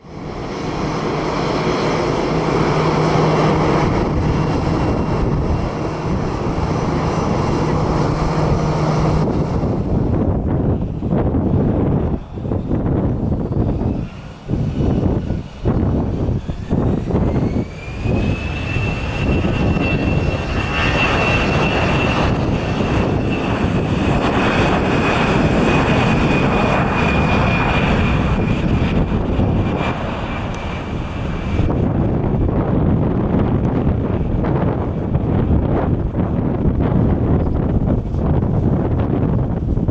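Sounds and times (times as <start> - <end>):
jet engines rumbling: 0.0 - 39.9
wind buffeting microphone: 0.0 - 39.9.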